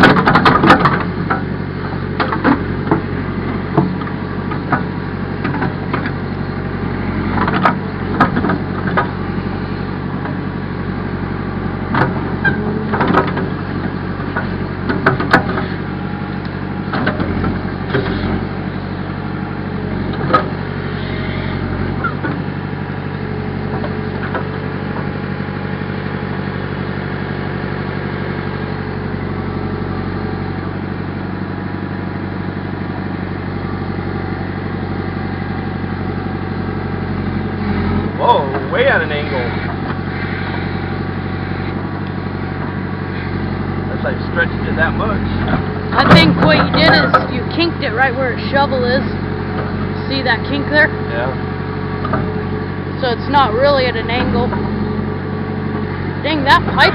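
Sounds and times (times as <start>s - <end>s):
backhoe engine running: 0.0s - 56.9s.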